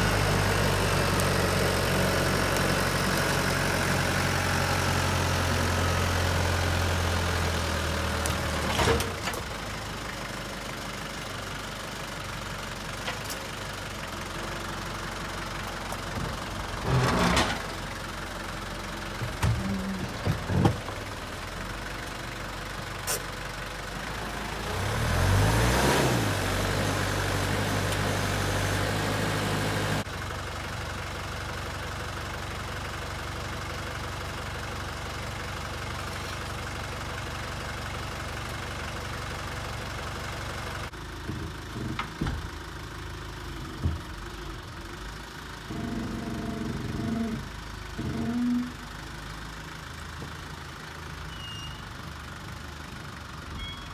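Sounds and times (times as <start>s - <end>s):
tractor engine running: 0.0s - 51.3s, 52.0s - 53.9s.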